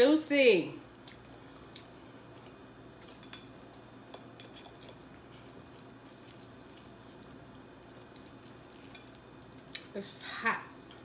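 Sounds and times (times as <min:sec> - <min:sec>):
crisp crust crackling: 0:01.0 - 0:11.0.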